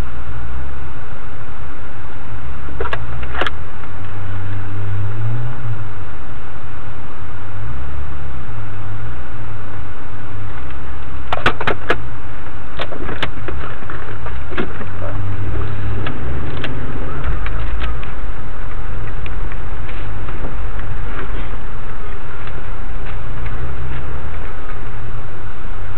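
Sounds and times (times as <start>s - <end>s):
off-road vehicle engine rumble: 0.0s - 25.9s.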